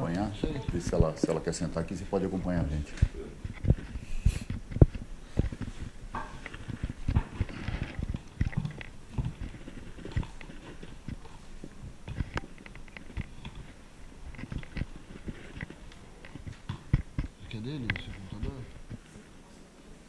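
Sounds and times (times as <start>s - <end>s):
objects being handled: 0.0s - 19.4s.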